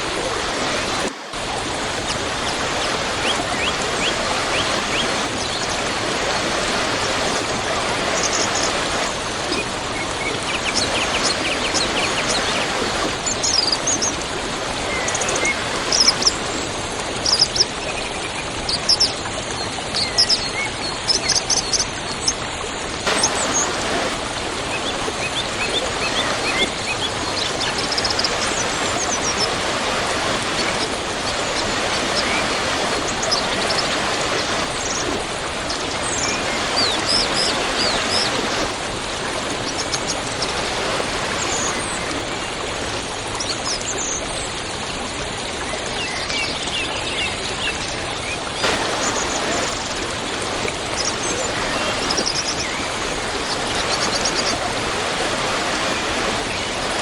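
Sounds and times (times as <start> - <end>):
birds chirping: 0.0 - 18.0, 23.1 - 42.6, 48.3 - 57.0
waterfall rushing: 0.0 - 18.1, 20.0 - 44.0, 48.5 - 57.0.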